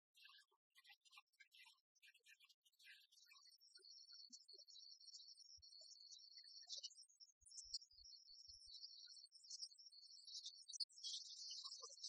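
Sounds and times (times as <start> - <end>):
faint high-pitched chirps and ticks: 0.0 - 12.0.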